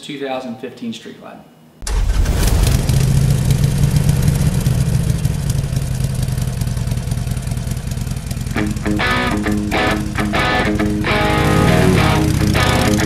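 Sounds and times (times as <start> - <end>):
motorcycle engine running: 1.9 - 13.0.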